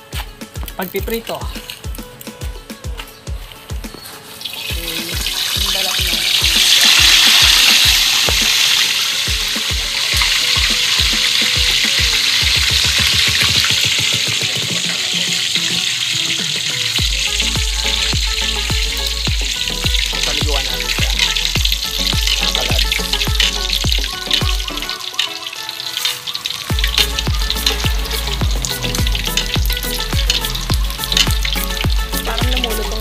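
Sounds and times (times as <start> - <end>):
background music with beat: 0.0 - 33.0
oil sizzling hard: 0.0 - 33.0.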